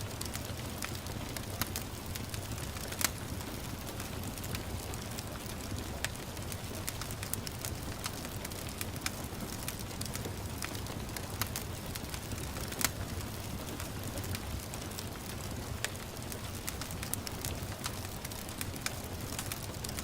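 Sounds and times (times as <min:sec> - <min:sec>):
gentle rain: 0:00.0 - 0:20.0
wood fire crackling: 0:00.0 - 0:20.0.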